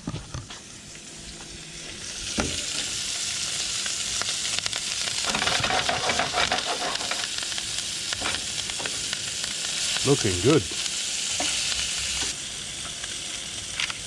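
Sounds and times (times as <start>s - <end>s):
fish sizzling in oil: 0.6s - 14.0s.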